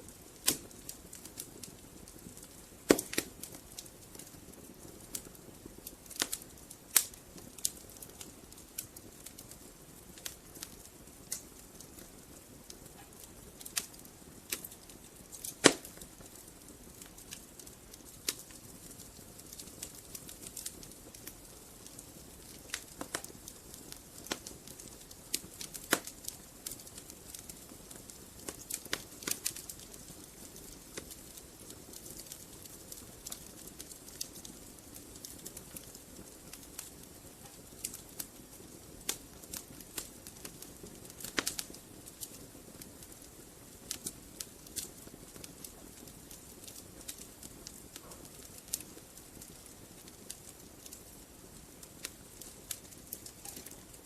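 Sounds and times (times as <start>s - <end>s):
flames rustling: 0.0s - 54.0s
wood fire crackling and popping: 0.0s - 54.0s.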